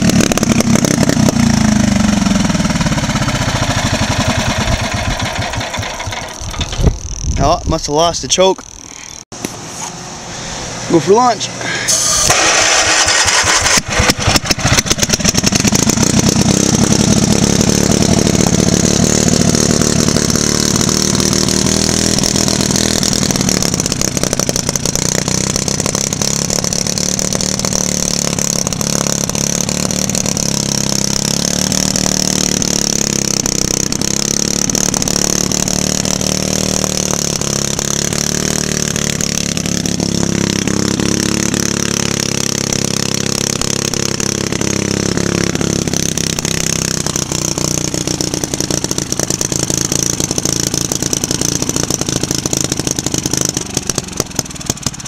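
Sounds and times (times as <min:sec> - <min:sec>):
generator engine running: 0:00.0 - 0:07.6, 0:08.2 - 0:55.0.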